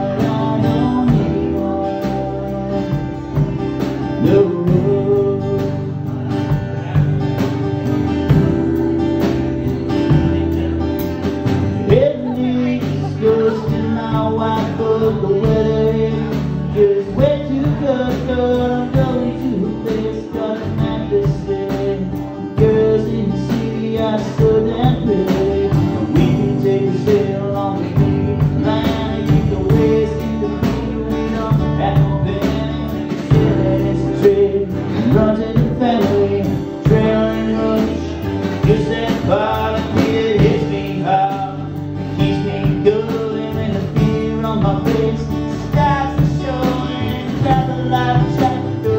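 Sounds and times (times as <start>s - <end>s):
man singing: 0.0s - 48.9s
strummed acoustic guitar: 0.0s - 48.9s.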